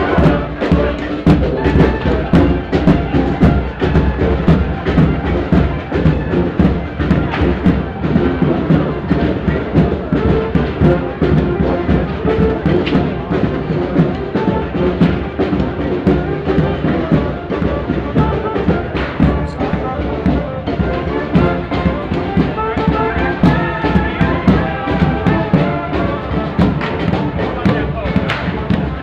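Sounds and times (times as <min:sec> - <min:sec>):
drums beating: 0:00.0 - 0:29.0
parade band playing: 0:00.0 - 0:29.0.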